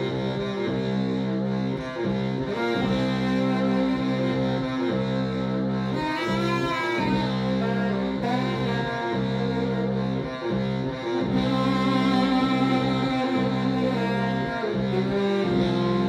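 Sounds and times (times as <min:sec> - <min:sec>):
saxophone low droning tones: 0:00.0 - 0:16.0.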